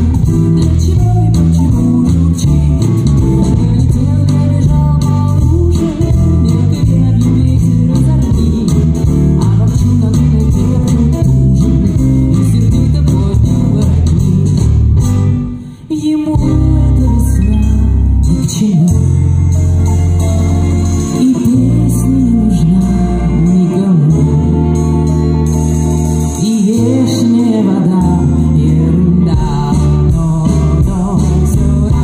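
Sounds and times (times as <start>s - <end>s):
woman singing: 0.0s - 19.9s, 20.8s - 25.3s, 26.3s - 32.0s
live pop band through pa: 0.0s - 32.0s.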